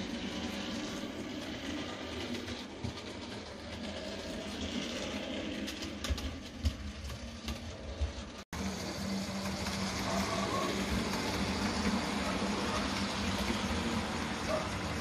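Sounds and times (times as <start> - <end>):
electric motor hum: 0.0 - 15.0
wheels knocking on track: 0.4 - 15.0.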